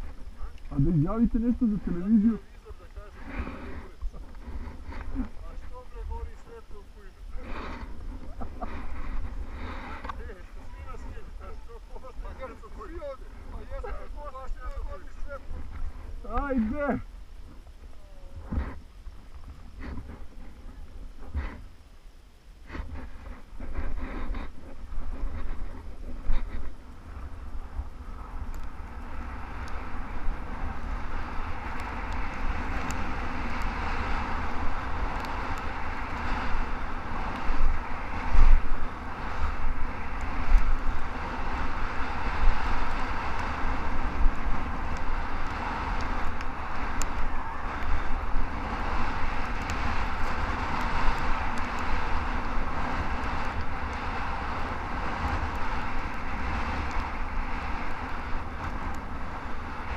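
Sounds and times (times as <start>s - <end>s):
skis scraping on snow: 0.0s - 17.7s, 22.7s - 59.9s
wind buffeting a camera: 3.0s - 21.9s, 22.6s - 59.9s.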